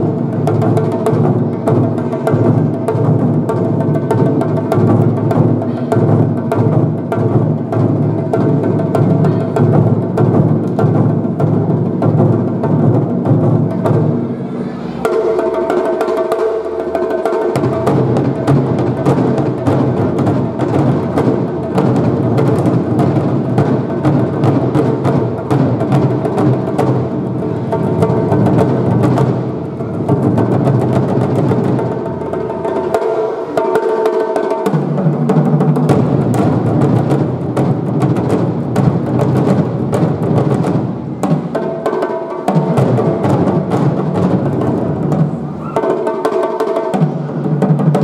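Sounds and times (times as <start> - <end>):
taiko drums beating: 0.0 - 48.0.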